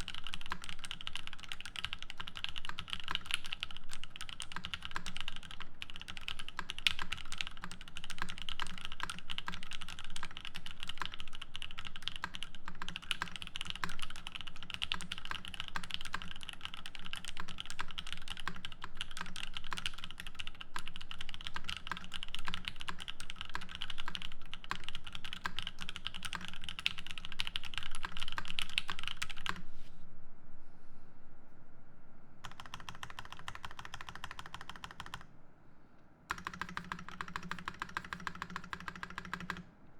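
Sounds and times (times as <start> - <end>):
fast typing on mechanical keyboard: 0.0 - 29.6, 32.4 - 35.3, 36.3 - 39.7.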